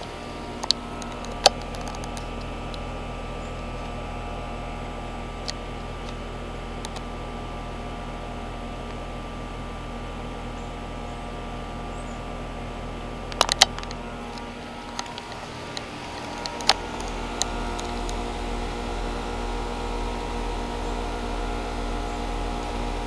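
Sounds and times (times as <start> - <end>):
outdoor air conditioner humming: 0.0 - 23.0.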